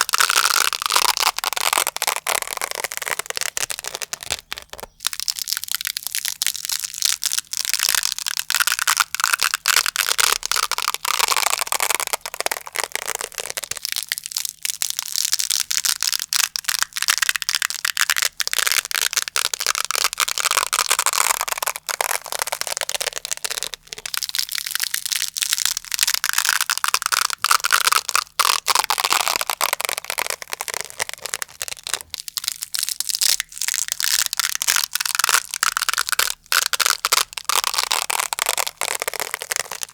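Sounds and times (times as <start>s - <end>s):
velcro being pulled apart: 0.0s - 39.9s.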